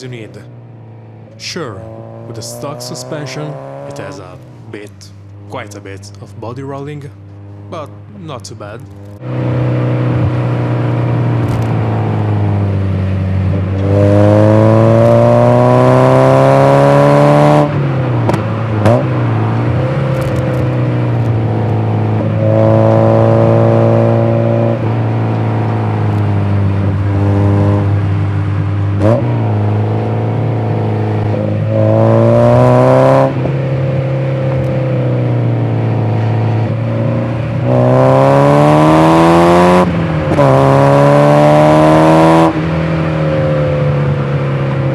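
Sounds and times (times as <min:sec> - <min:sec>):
car engine revving under throttle: 0:00.0 - 0:44.9.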